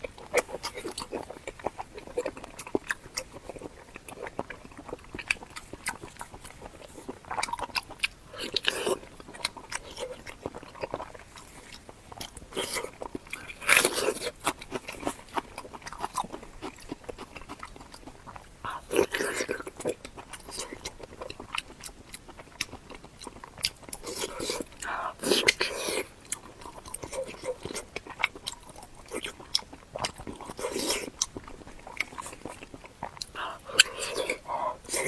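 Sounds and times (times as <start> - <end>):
chewing and crunching: 0.0 - 35.0.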